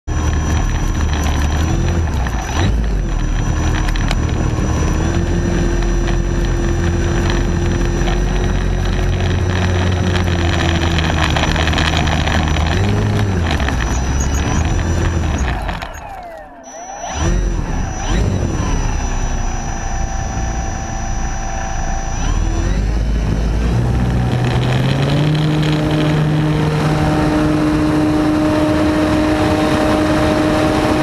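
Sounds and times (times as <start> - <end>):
model airplane motor and propeller: 0.1 - 31.0.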